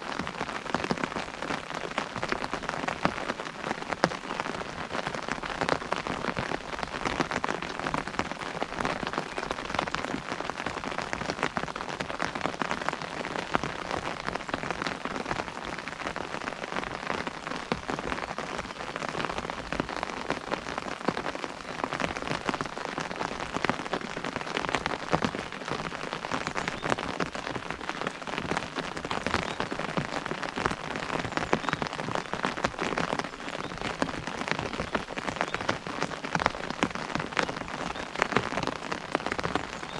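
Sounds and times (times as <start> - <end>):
rain pattering on an umbrella: 0.0 - 39.9
rainfall hiss: 0.0 - 39.9.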